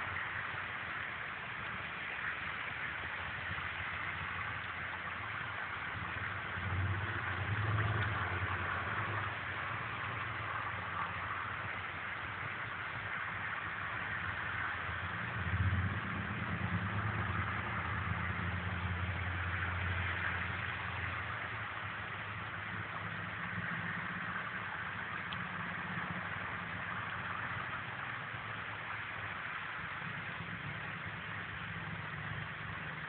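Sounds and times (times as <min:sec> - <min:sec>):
constant hiss: 0:00.0 - 0:33.0
vehicle engine humming: 0:00.0 - 0:33.0.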